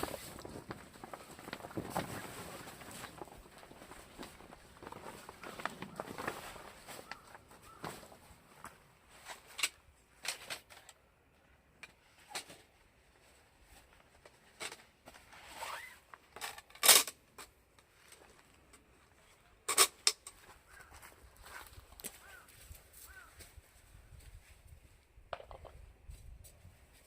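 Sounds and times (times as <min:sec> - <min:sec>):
camping gear clicking and rustling: 0:00.0 - 0:23.6.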